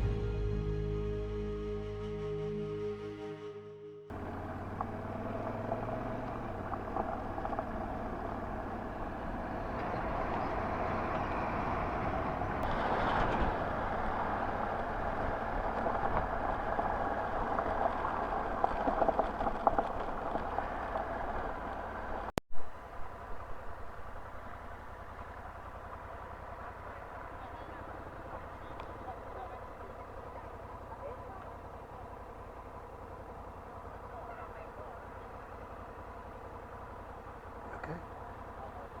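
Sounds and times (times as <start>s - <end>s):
motorcycle engine running: 0.0s - 1.7s, 4.1s - 22.3s, 23.1s - 39.0s
wind and road noise: 4.1s - 39.0s.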